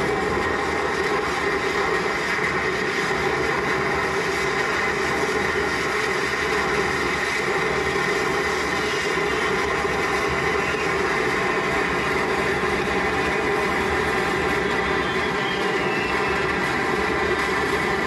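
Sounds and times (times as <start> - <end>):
roar and hiss of fireworks rockets: 0.0 - 18.0.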